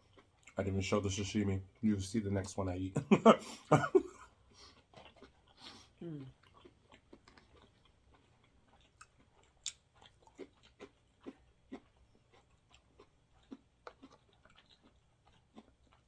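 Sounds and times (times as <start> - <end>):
person chewing: 0.0 - 0.6, 3.0 - 16.0.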